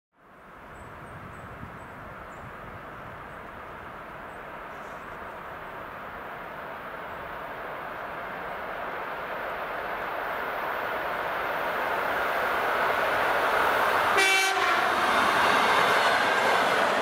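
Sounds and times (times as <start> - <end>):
electric train rolling rumble: 0.4 - 17.0.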